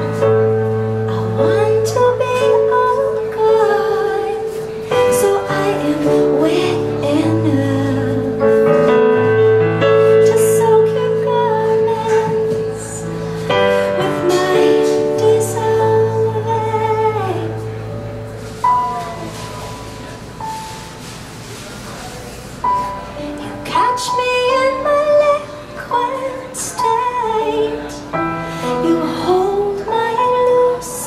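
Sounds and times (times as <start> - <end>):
woman singing into microphone: 0.0 - 17.8, 23.2 - 31.0.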